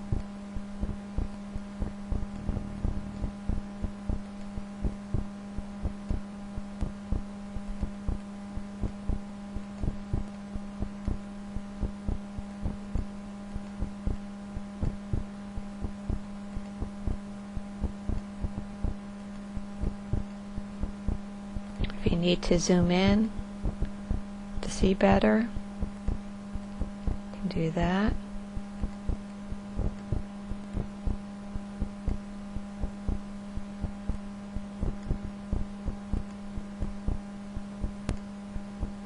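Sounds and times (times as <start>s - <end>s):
low electrical hum: 0.0s - 39.0s.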